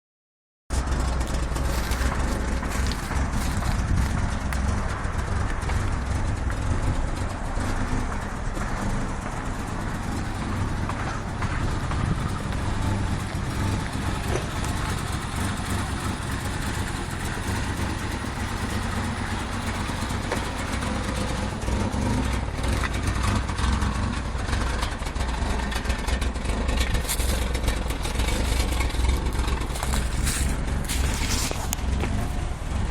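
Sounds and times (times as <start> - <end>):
car engine idling: 0.7 - 32.9.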